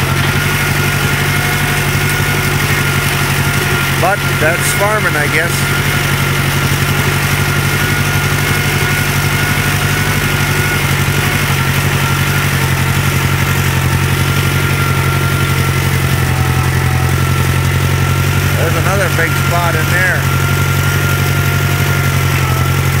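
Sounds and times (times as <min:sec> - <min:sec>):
atv engine running: 0:00.0 - 0:23.0
thin steady whine: 0:00.0 - 0:23.0.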